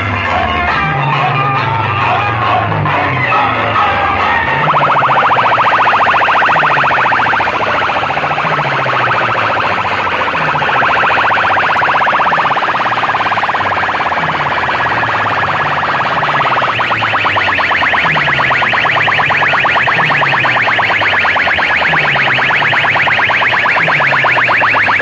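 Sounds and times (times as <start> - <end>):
pulsing siren-like electronic tone: 0.0 - 25.0.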